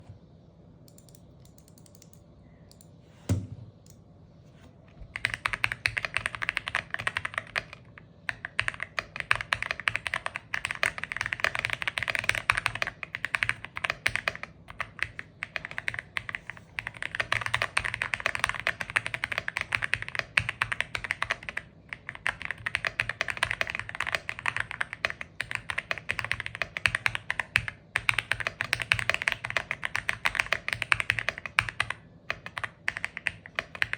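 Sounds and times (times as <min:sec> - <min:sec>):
mechanical keyboard typing: 0:00.9 - 0:02.8, 0:05.2 - 0:33.9.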